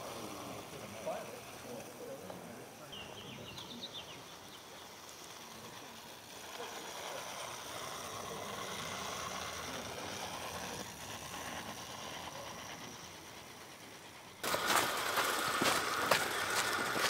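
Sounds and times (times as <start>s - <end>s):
clockwork model railcar running: 0.0s - 17.0s.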